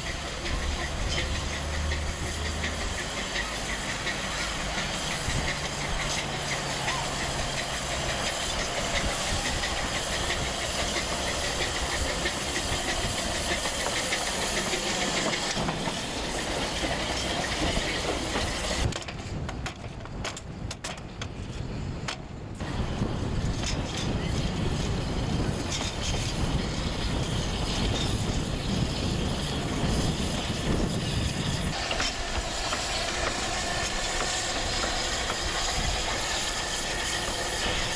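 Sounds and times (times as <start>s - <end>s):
steam locomotive hissing: 0.0s - 19.4s, 21.6s - 37.9s.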